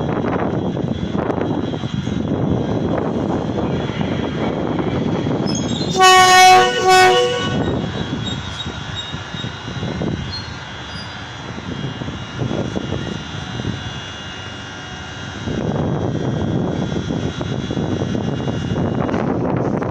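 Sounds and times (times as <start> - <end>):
electric train running by: 0.0 - 19.9.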